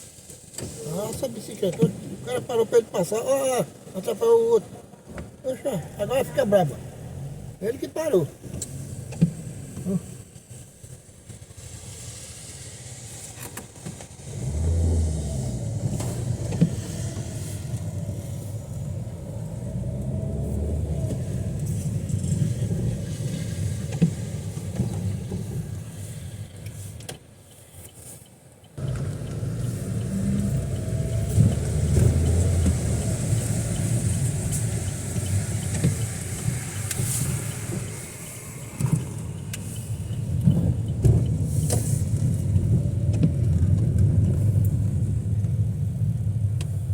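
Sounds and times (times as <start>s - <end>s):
vehicle engine rumbling: 4.8s - 46.9s.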